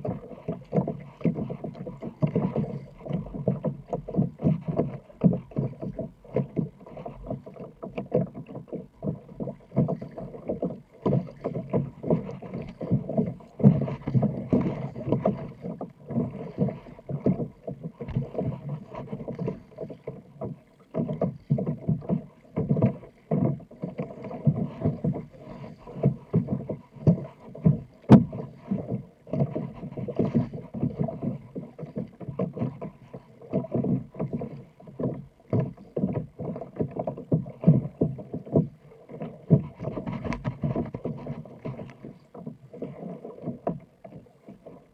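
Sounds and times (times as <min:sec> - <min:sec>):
paddle splashing water: 0:00.0 - 0:44.9.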